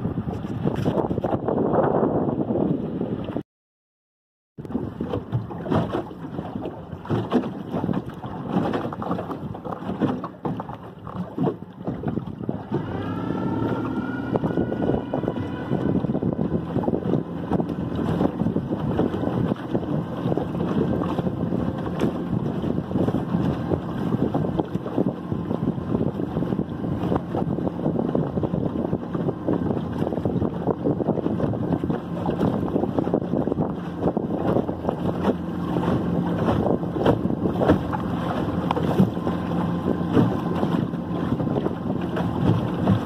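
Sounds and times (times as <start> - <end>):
outboard motor whine: 0.0 - 3.4, 4.6 - 43.0
wind buffeting microphone: 0.0 - 3.4, 4.6 - 43.0.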